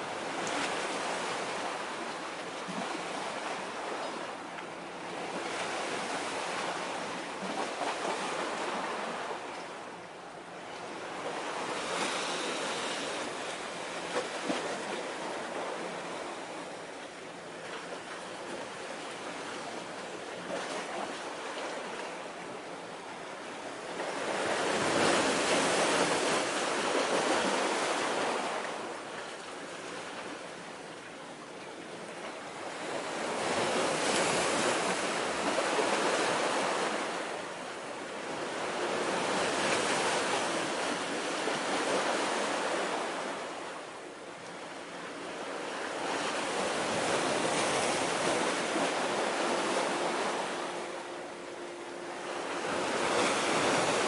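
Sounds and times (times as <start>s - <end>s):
sea waves washing: 0.0s - 30.9s, 32.0s - 54.0s.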